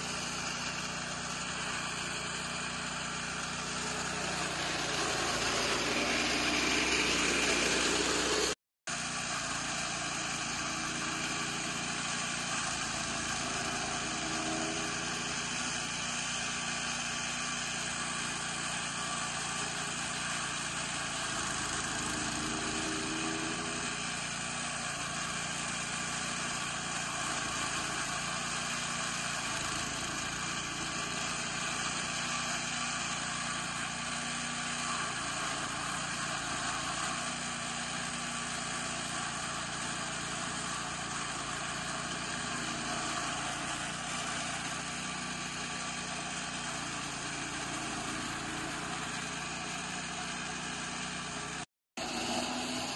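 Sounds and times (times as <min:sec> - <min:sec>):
chaff cutter machine running: 0:00.0 - 0:52.9.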